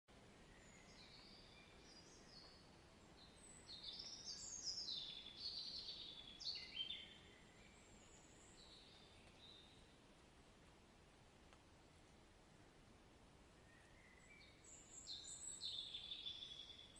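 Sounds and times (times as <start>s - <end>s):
songbird singing: 0.1s - 10.2s, 13.3s - 16.9s
faint background hiss: 0.1s - 16.9s.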